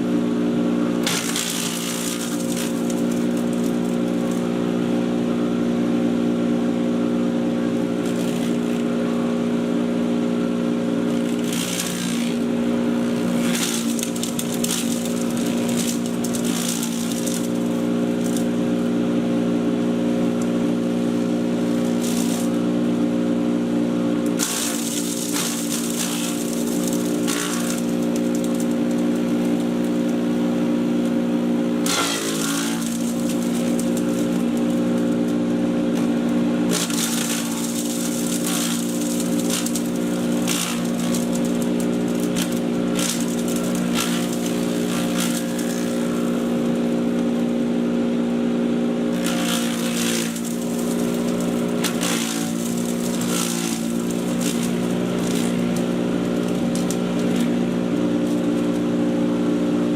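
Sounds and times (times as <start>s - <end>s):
chipper shredder motor hum: 0.0s - 59.9s
harsh crackling shredding noise: 0.9s - 5.0s, 7.7s - 9.3s, 11.0s - 23.2s, 24.0s - 47.8s, 49.1s - 59.1s.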